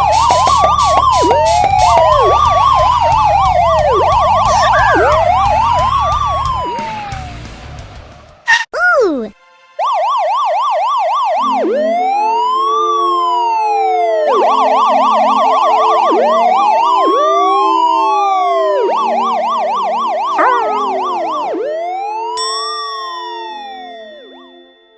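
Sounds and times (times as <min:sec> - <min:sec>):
falling siren swoop: 0:00.0 - 0:07.4, 0:09.8 - 0:22.4
emergency siren wailing and yelping: 0:00.0 - 0:07.5, 0:09.8 - 0:24.5
low steady siren notes: 0:00.0 - 0:07.5, 0:09.8 - 0:24.8.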